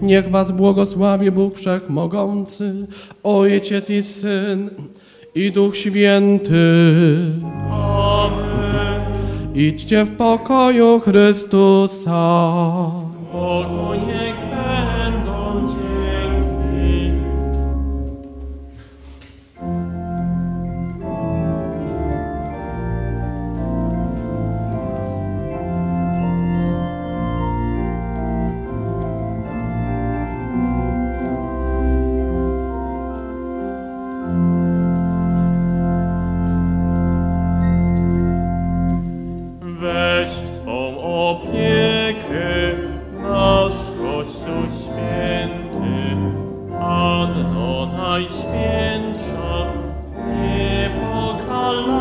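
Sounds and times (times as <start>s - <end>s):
church organ chords: 0.0s - 52.0s.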